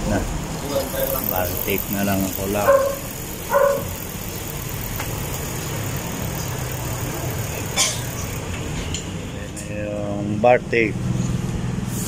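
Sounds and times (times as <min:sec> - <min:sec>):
engine hum: 0:00.0 - 0:12.0.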